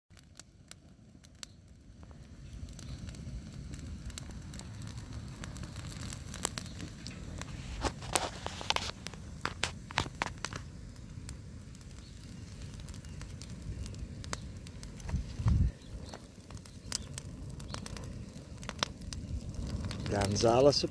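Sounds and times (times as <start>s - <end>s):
fire crackling and popping: 0.1s - 20.9s.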